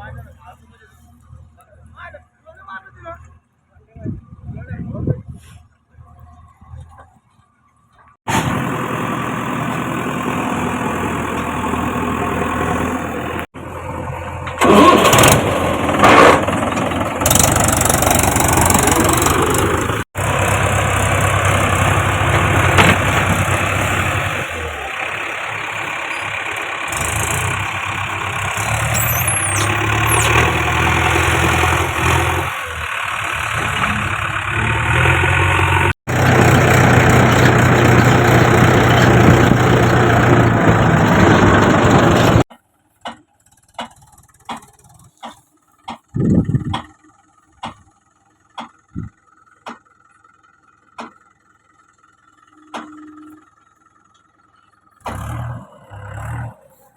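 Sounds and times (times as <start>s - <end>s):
diesel engine running: 8.0s - 56.9s
rough engine bursts: 8.3s - 56.9s.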